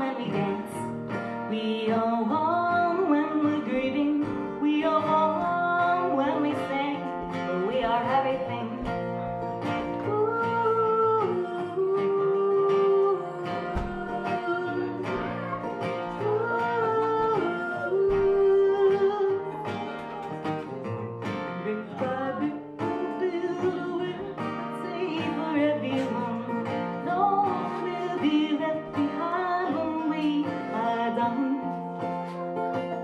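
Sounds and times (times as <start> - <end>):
picked acoustic guitar: 0.0 - 33.0.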